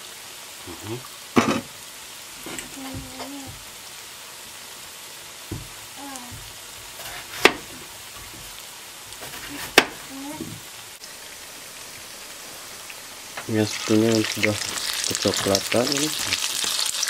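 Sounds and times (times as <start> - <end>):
pancakes sizzling in oil: 0.0 - 17.0.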